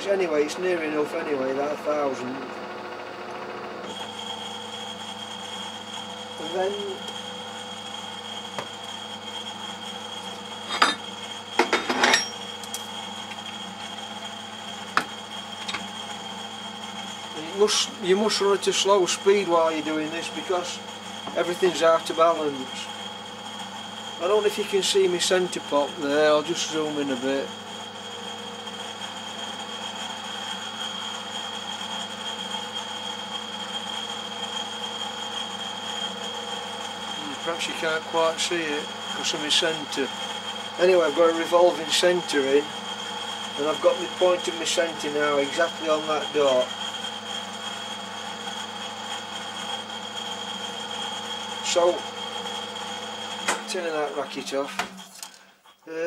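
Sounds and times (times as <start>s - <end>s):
workshop machine humming: 0.0s - 56.0s
high machine whine: 3.8s - 56.0s.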